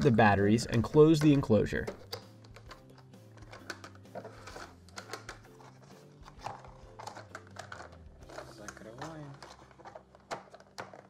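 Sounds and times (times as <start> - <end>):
quiet background music: 0.0 - 11.0
plastic clicks and taps: 1.2 - 5.5, 6.2 - 11.0.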